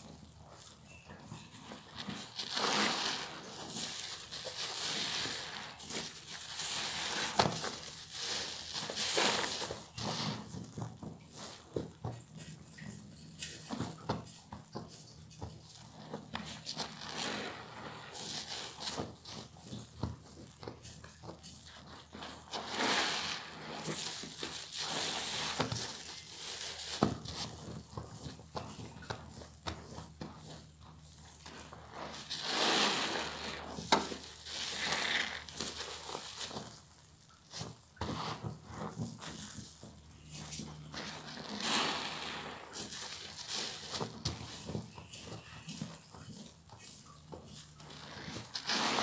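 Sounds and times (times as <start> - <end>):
sponges squelching in suds: 0.0 - 49.0
foam bubbles crackling: 1.4 - 12.8, 13.8 - 49.0.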